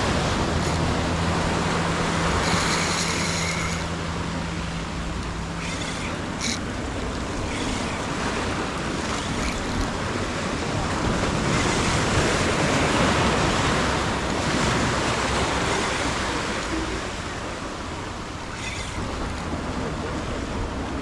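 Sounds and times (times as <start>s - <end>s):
ocean surf washing on shore: 0.0s - 21.0s.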